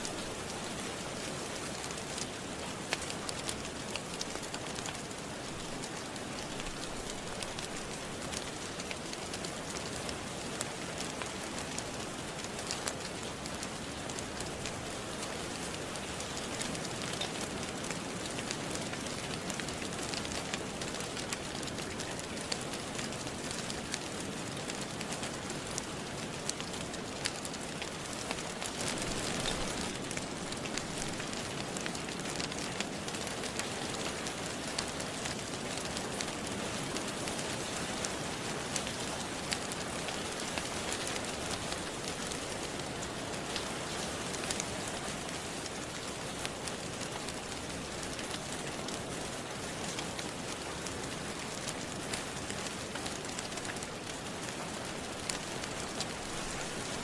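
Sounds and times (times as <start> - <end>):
fireplace fire crackling: 0.0 - 57.0
steady rain: 0.0 - 57.0.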